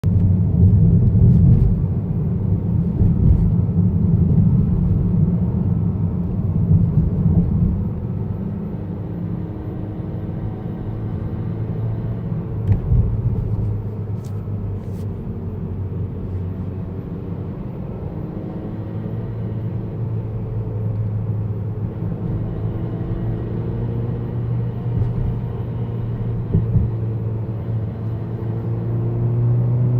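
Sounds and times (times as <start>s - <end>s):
car engine low rumble: 0.0s - 29.9s.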